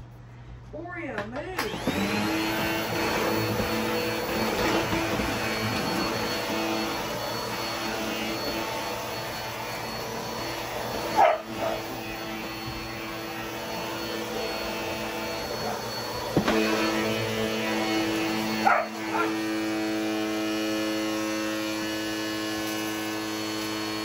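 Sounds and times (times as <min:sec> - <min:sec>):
vacuum cleaner whining: 0:01.6 - 0:24.0.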